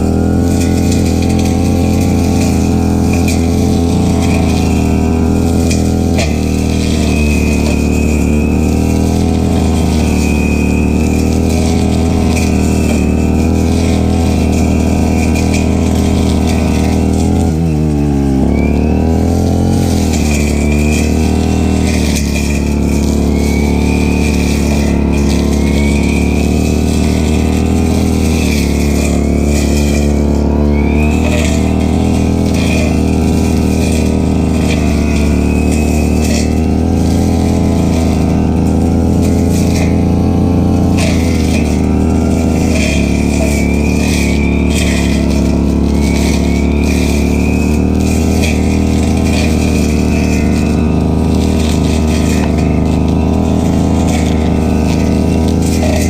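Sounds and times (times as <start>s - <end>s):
brush cutter engine cutting grass: 0.0s - 56.0s.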